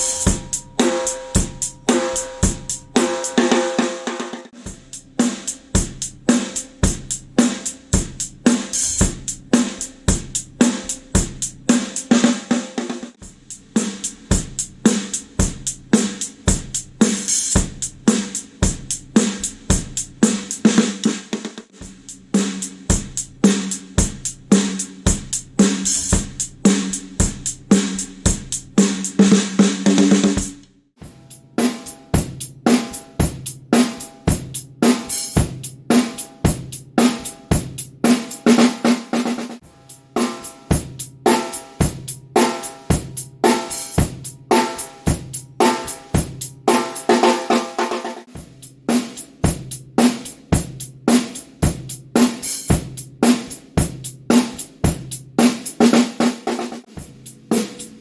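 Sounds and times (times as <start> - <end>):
drum kit beat: 0.0 - 58.0.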